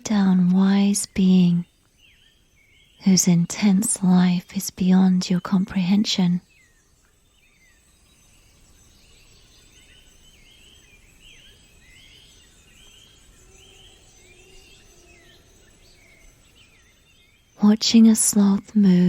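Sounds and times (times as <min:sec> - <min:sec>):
faint forest ambience: 0:00.0 - 0:19.0.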